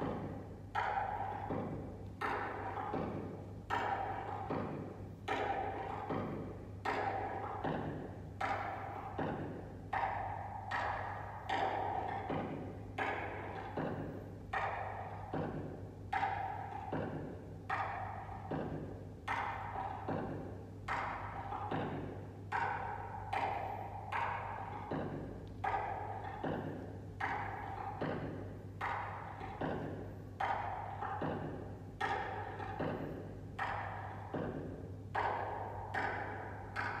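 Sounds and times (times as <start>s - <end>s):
hollow wooden knocks: 0.0s - 37.0s
low steady hum: 0.0s - 37.0s.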